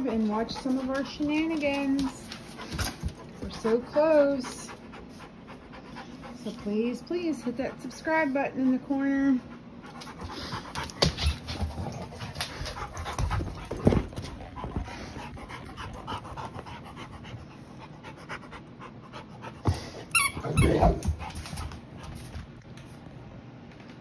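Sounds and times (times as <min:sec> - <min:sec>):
dog panting rapidly: 0:00.0 - 0:08.3, 0:09.4 - 0:22.3.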